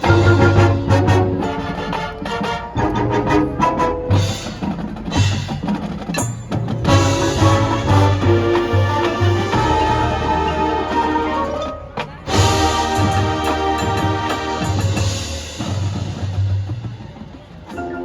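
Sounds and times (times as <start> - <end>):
wood-block and mallet notes: 0.0 - 16.9, 17.6 - 18.0
marching band playing: 0.0 - 18.0.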